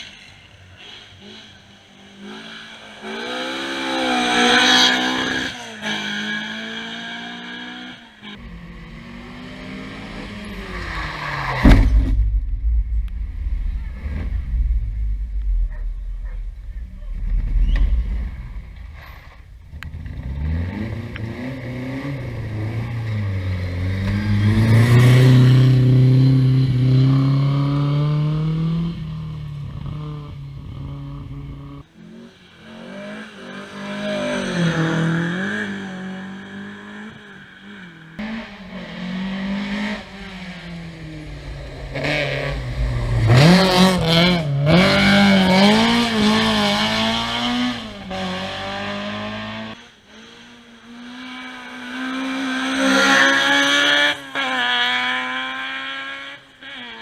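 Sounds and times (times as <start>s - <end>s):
rally car engines revving past: 0.0s - 12.2s, 15.2s - 57.0s.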